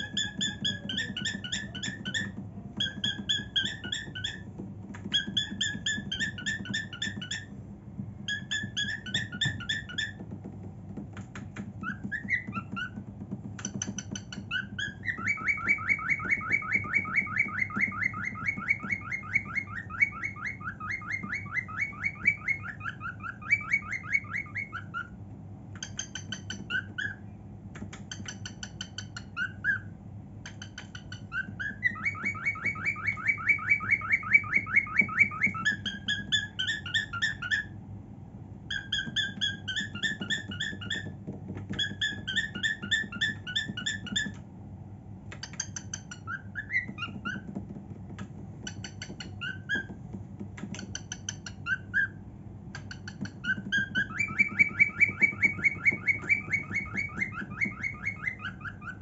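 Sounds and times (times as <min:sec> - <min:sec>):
cockatiel whistling and warbling: 0:00.0 - 0:07.5, 0:08.2 - 0:10.3, 0:11.6 - 0:25.2, 0:25.8 - 0:37.8, 0:38.7 - 0:44.4, 0:45.3 - 0:47.6, 0:48.6 - 0:50.0, 0:50.6 - 0:59.0.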